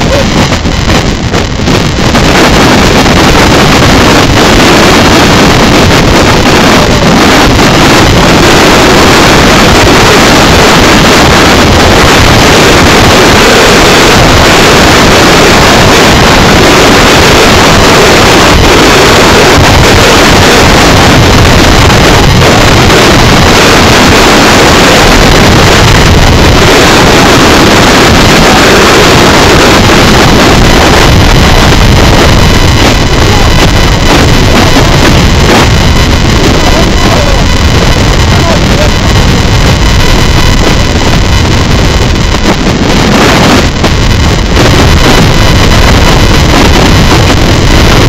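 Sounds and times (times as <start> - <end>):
water rushing along hull: 0.0 - 48.0
wind blasting microphone: 0.0 - 48.0.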